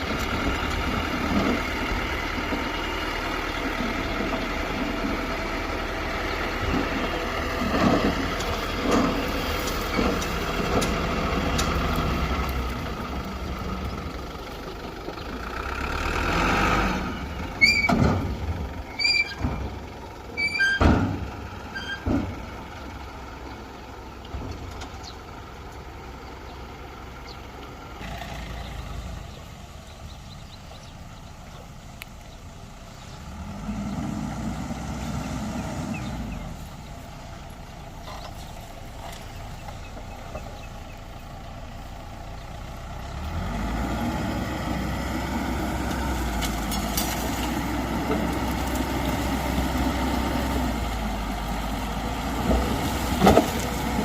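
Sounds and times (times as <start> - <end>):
construction machinery diesel engine: 0.0 - 54.0.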